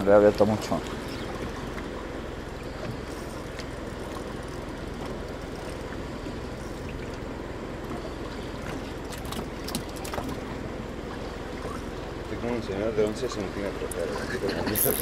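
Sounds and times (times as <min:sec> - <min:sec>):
boat engine humming: 0:00.0 - 0:15.0
sea water washing: 0:00.0 - 0:15.0.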